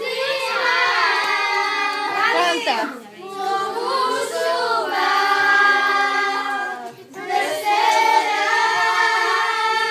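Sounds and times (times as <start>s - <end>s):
children singing unaccompanied: 0.0s - 9.9s.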